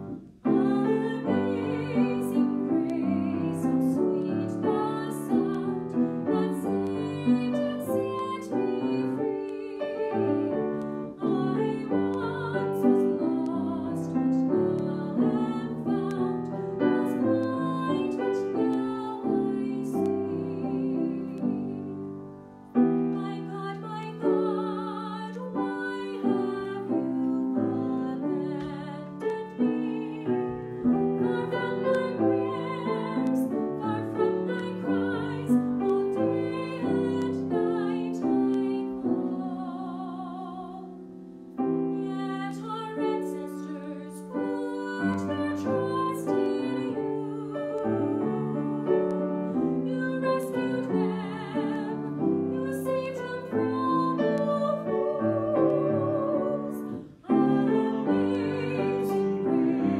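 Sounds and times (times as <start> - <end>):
woman singing with vibrato: 0.0 - 22.0, 23.1 - 41.1, 41.9 - 59.9
grand piano: 0.0 - 59.9.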